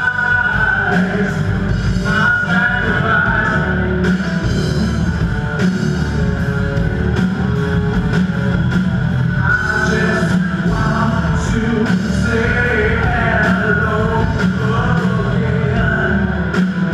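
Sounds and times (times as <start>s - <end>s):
drum kit beat: 0.0s - 16.9s
electric guitars: 0.0s - 16.9s.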